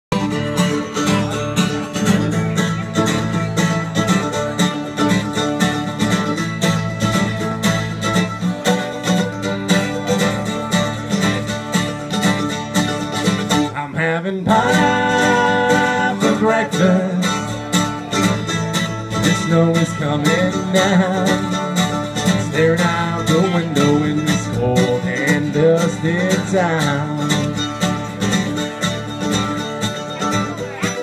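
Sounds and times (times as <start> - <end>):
plucked string instrument picking: 0.1 - 31.0
strummed acoustic guitar: 0.1 - 31.0.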